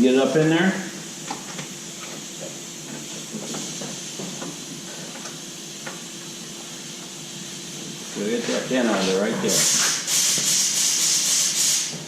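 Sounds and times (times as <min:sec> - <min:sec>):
compressed air hissing: 0:00.9 - 0:12.0.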